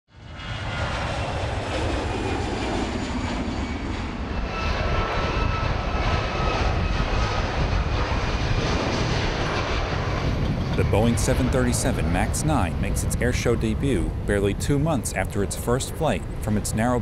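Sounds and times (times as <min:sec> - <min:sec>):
jet engines at takeoff: 0:00.1 - 0:17.0.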